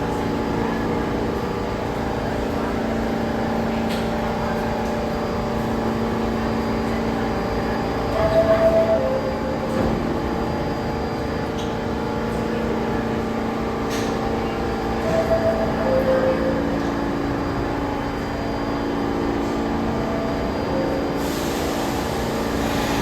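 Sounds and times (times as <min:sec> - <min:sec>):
train electrical hum: 0:00.0 - 0:23.0.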